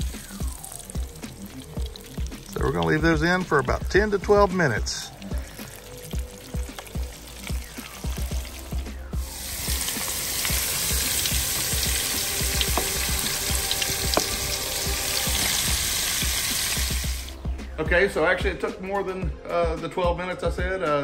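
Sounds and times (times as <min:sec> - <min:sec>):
oil sizzling and bubbling: 0:00.0 - 0:17.4.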